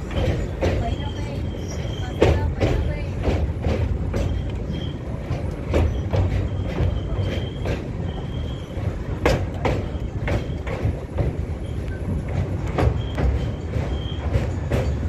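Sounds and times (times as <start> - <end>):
train interior rumble: 0.0 - 15.0
wheels clacking over rail joints: 0.0 - 15.0.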